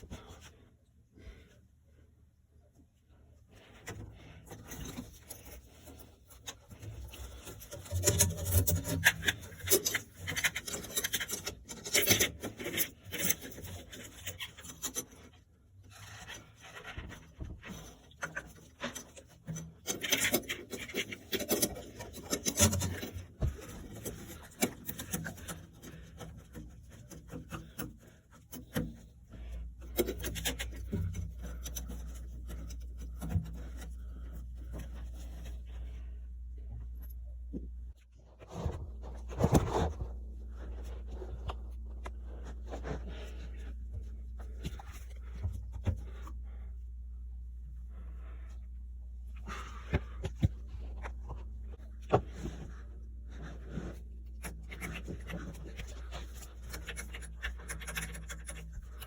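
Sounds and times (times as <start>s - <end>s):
steady low hum: 0.0s - 59.0s
rubbing and scraping: 3.1s - 59.0s.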